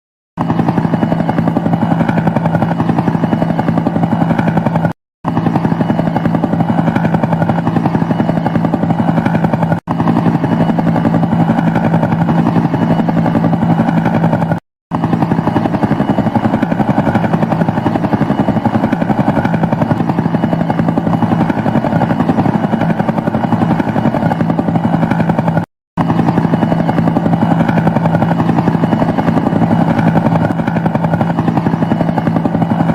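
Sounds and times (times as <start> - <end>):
helicopter rotors chopping: 0.4 - 32.9.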